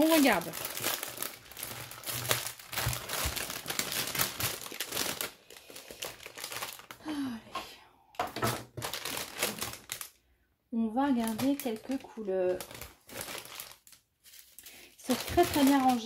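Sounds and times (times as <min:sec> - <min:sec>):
plastic bag crinkling: 0:00.0 - 0:07.2, 0:08.2 - 0:10.2, 0:11.0 - 0:16.0.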